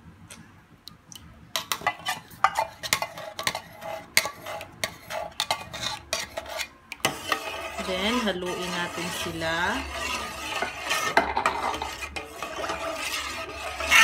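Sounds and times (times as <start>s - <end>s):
metal spoon scraping tin: 1.6s - 14.0s.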